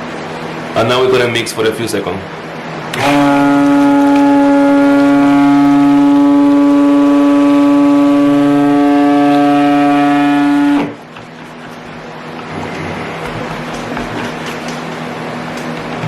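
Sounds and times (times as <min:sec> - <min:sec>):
stick blender running: 0:02.9 - 0:16.0.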